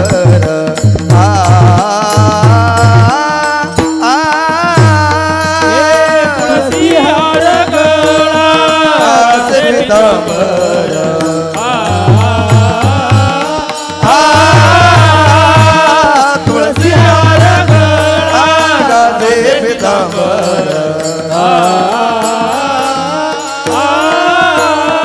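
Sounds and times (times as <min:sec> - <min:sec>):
instrumental accompaniment: 0:00.0 - 0:25.0
person singing devotional song: 0:00.0 - 0:25.0.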